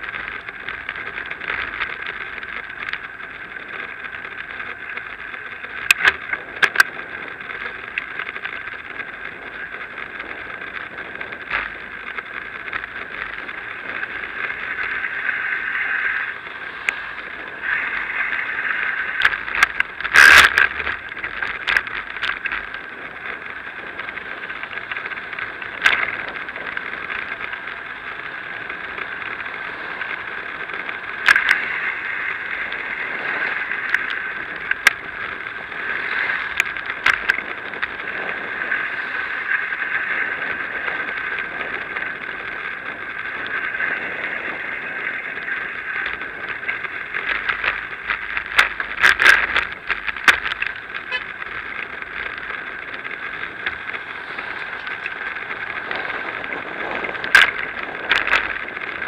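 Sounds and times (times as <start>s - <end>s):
bicycle knocks and rattles: 0.0s - 59.0s
bicycle riding hum: 0.0s - 59.0s.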